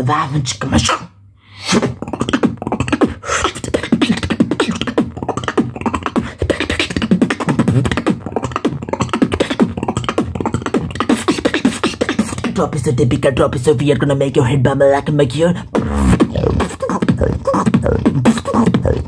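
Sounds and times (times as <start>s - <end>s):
person beatboxing: 1.6s - 19.0s.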